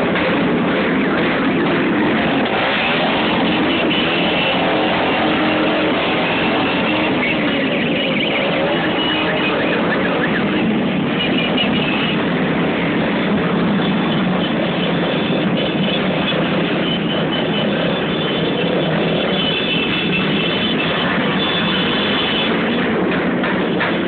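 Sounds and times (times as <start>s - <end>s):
motorcycle engine revving: 0.0s - 24.0s
motorcycle engines running: 0.0s - 24.0s.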